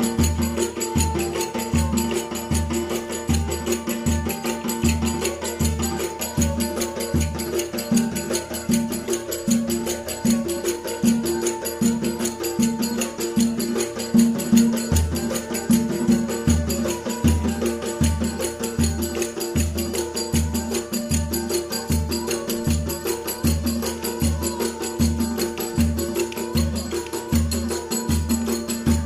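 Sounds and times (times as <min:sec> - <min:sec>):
fast high percussion: 0:00.0 - 0:29.0.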